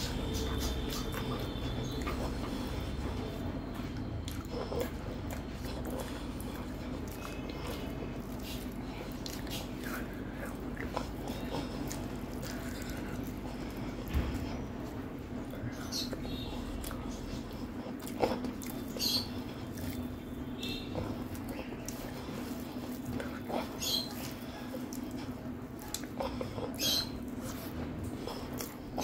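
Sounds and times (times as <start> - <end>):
person chewing with mouth clicks: 0.0 - 29.0.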